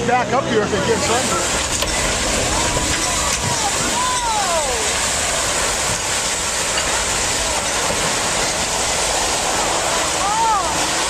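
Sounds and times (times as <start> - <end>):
rush of fast-moving water: 0.0 - 11.0.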